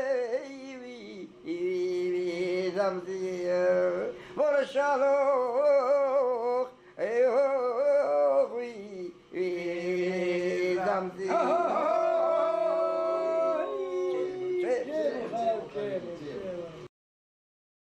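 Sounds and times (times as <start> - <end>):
man singing slow melody: 0.0 - 16.9.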